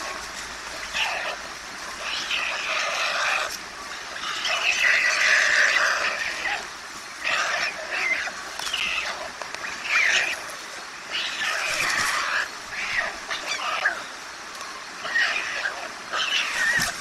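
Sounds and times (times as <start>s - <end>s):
stork chicks begging calls: 0.0s - 17.0s.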